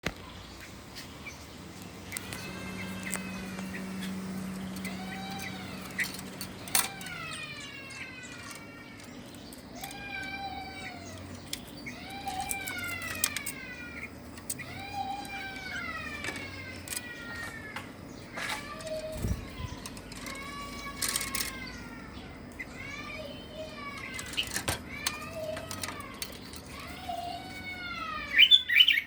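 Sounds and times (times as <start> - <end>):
birds drawn-out rising falling calls: 0.1 - 29.0.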